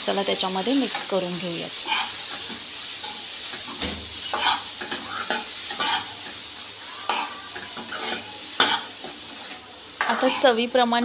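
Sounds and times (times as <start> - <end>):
masala sizzling in oil: 0.0 - 11.0
metal spoon scraping a pan: 0.3 - 10.8.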